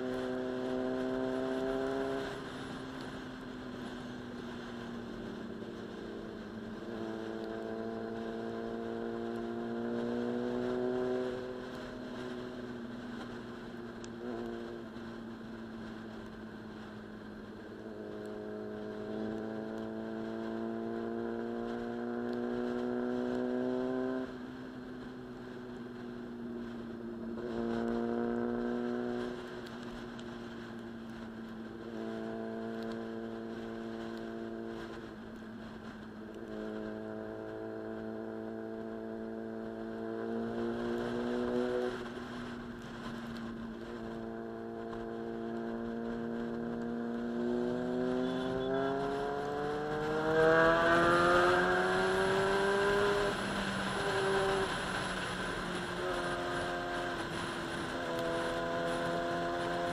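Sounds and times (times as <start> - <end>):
motorcycle engine revving: 0.0 - 4.0, 4.6 - 12.6, 17.5 - 25.2, 26.0 - 35.2, 36.2 - 59.9.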